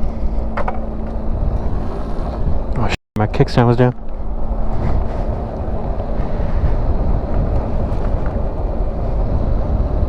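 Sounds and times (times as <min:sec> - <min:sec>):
wind rushing on helmet microphone: 0:00.0 - 0:10.0.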